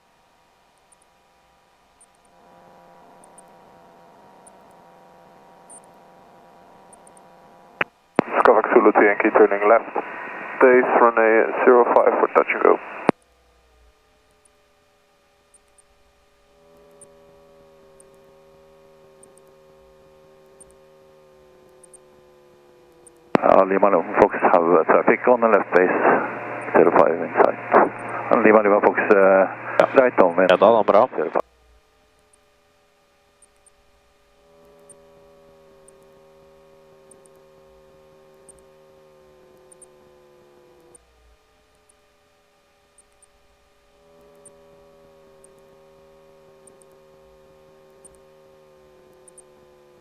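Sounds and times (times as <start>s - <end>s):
light aircraft engine and propeller hum: 0.0s - 50.0s.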